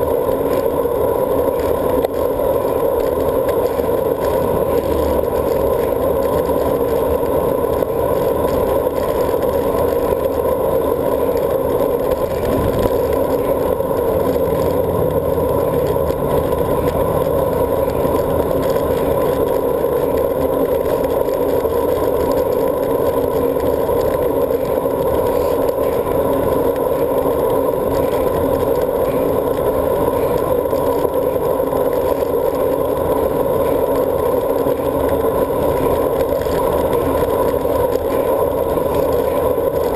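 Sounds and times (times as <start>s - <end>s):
bicycle tyre noise: 0.0s - 39.9s.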